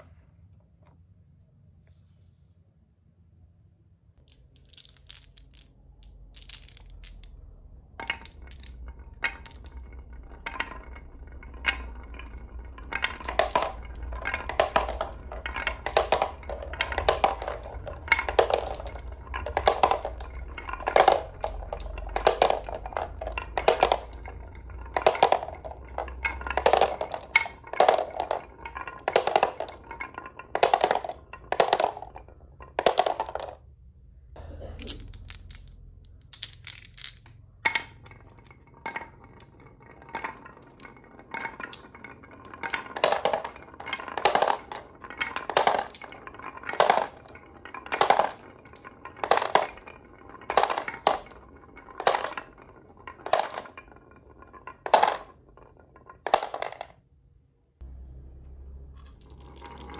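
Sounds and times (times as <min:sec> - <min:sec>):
marbles clacking against wood: 0:04.2 - 0:33.7, 0:34.5 - 0:57.0, 0:58.9 - 0:59.9
marbles dropping into plastic truck: 0:04.2 - 0:33.7, 0:34.8 - 0:57.0, 0:58.9 - 0:59.9
marbles rolling on wooden track: 0:04.2 - 0:33.8, 0:34.4 - 0:57.1, 0:57.8 - 0:59.9.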